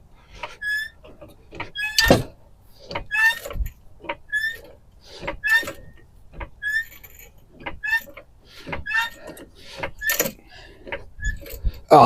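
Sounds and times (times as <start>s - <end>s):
car jack squeaking: 0.1s - 12.0s.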